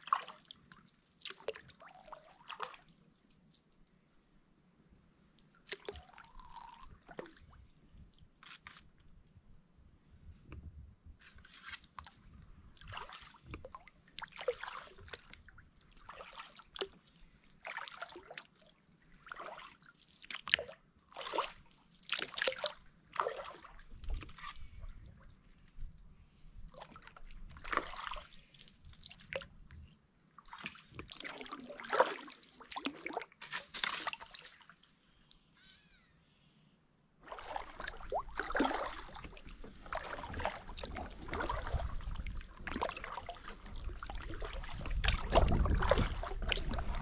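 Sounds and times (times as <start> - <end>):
paddle splashes and drips: 0.0 - 4.0, 5.4 - 8.8, 11.4 - 29.7, 30.3 - 35.4, 37.2 - 47.0.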